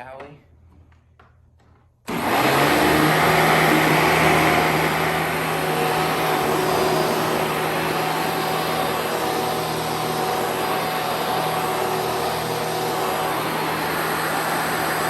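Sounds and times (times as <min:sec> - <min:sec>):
vacuum cleaner motor running: 0:02.1 - 0:15.0
vacuum cleaner switched on: 0:02.1 - 0:15.0.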